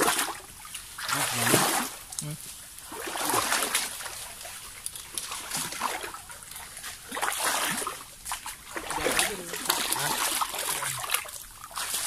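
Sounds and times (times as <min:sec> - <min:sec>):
splashing in muddy water: 0:00.0 - 0:12.0.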